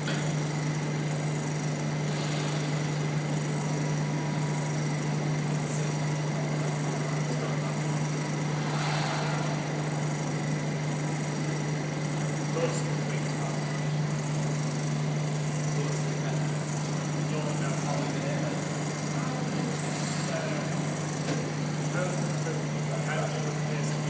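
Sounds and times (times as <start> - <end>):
industrial sawing machine running: 0.0 - 24.0.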